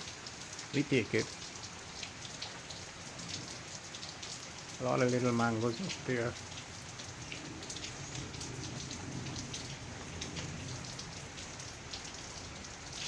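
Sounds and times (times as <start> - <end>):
rain falling: 0.0 - 13.0
raindrops hitting close by: 0.0 - 13.0.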